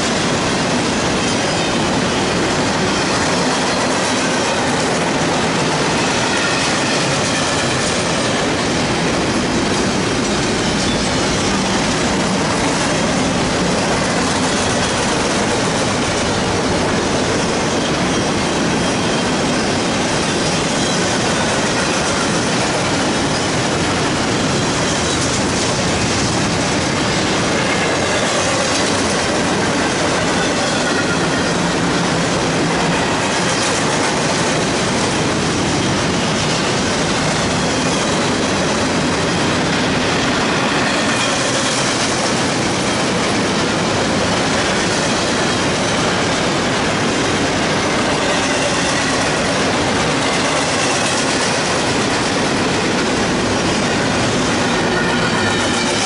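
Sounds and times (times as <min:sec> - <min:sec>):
freight train wheels clattering on rail: 0:00.0 - 0:56.0.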